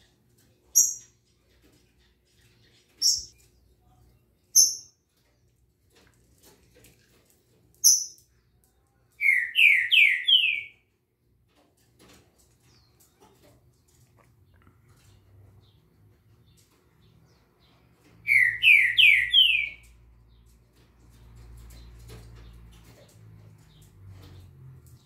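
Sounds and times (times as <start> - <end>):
caged songbirds calling: 0.0 - 25.0.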